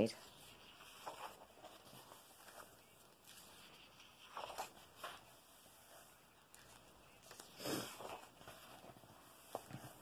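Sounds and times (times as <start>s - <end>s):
paper page turning: 0.2s - 10.0s.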